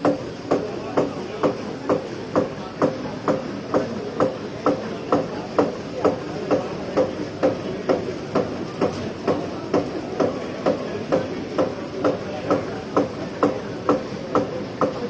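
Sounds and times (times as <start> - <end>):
die-cutting machine clacking: 0.0 - 15.0.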